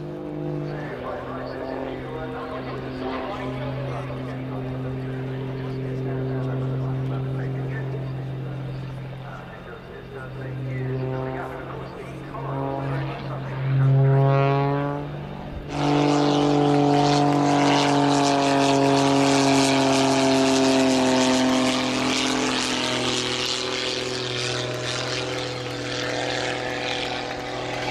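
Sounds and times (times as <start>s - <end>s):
biplane engine and propeller: 0.0s - 27.9s.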